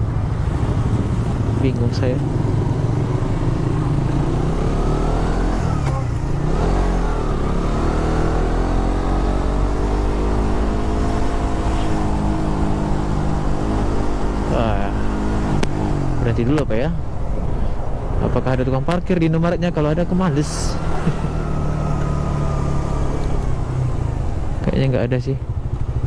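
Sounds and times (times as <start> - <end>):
wind and road noise: 0.0 - 26.0
motorcycle engine running: 0.3 - 16.4, 19.8 - 26.0.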